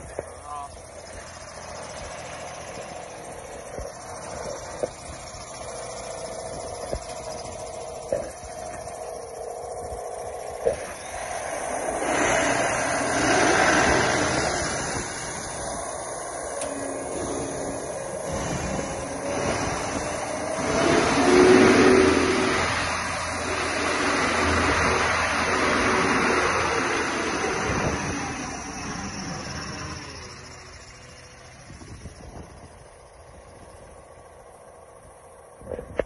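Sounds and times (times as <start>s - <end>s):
trencher diesel engine running: 0.0s - 36.0s.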